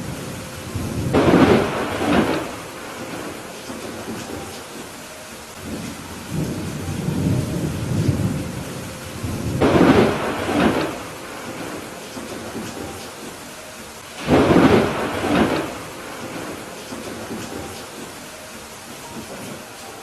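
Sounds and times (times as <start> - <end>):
rolling thunder: 0.0 - 5.0, 5.6 - 13.5, 14.2 - 18.2
steady rain: 0.0 - 20.0.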